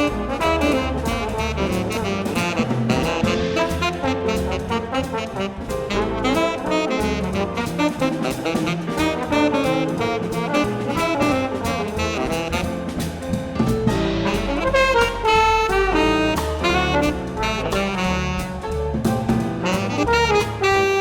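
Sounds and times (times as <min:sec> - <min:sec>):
saxophone: 0:00.0 - 0:13.2, 0:13.9 - 0:21.0
jazz band playing: 0:00.0 - 0:21.0
trombone: 0:00.0 - 0:21.0.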